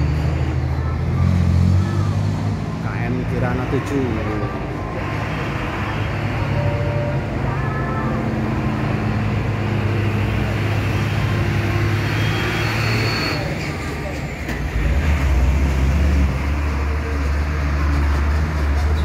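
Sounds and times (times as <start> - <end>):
diesel engines droning: 0.0 - 19.0.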